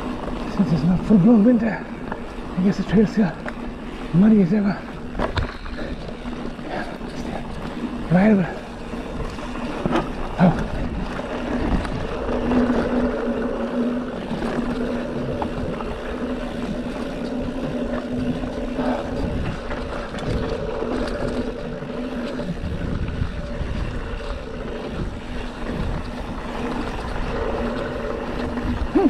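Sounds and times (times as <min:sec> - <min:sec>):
bike tyres on dirt and stones: 0:00.0 - 0:29.0.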